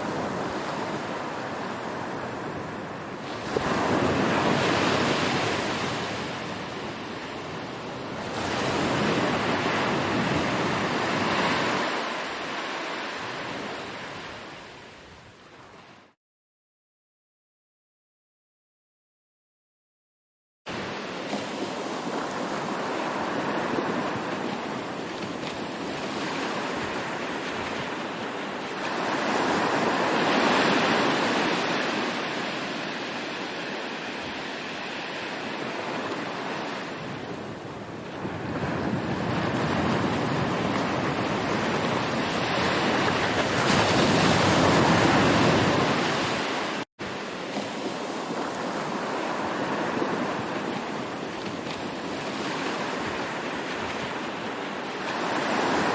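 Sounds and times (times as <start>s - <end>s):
ocean waves washing onto shore: 0.0s - 16.2s, 20.7s - 55.9s.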